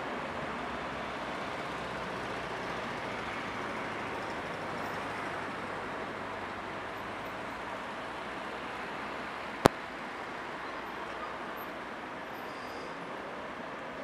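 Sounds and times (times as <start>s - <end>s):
city traffic hum: 0.0s - 14.0s.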